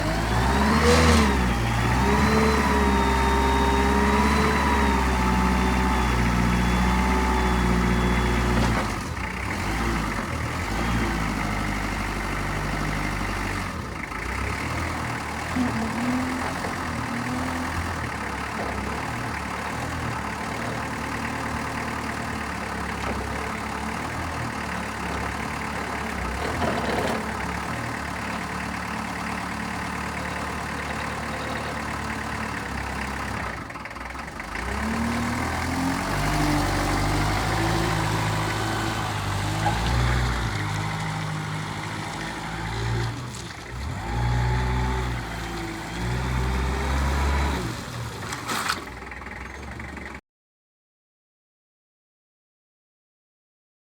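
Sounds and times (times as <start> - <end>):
forklift engine idling and revving: 0.0 - 50.2.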